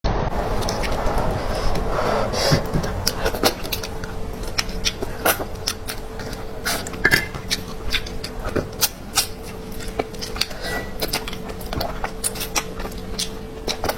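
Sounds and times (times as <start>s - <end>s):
faint steady hum: 0.1s - 13.9s
person chewing crunchily: 0.4s - 13.9s.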